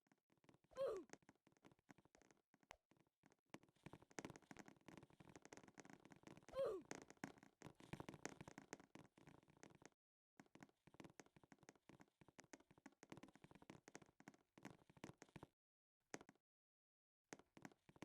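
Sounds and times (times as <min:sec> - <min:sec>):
faint clicks and crackle: 0:00.0 - 0:15.6, 0:17.3 - 0:18.0.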